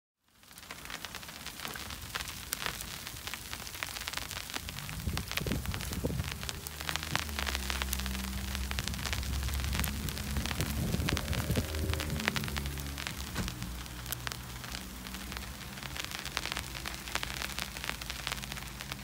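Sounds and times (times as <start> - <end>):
snow pattering on umbrella: 0.2 - 19.0.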